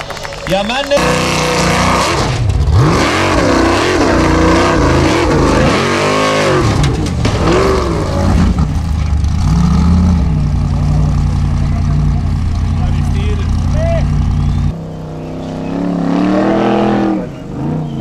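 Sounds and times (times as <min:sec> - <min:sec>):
buggy engine revving hard: 0:01.0 - 0:18.0.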